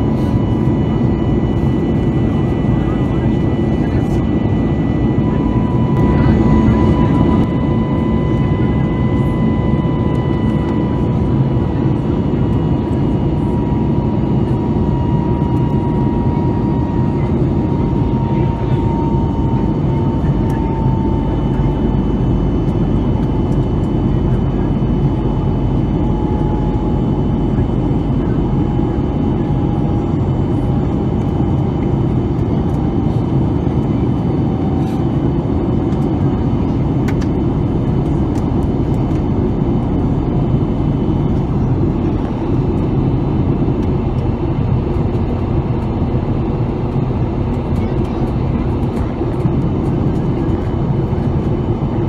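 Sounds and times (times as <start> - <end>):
airplane cabin engine rush: 0.0 - 52.0.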